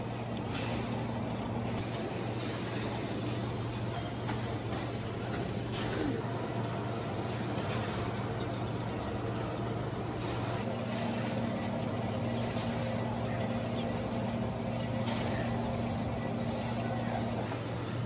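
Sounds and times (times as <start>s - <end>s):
workshop machinery hum: 0.0s - 18.0s.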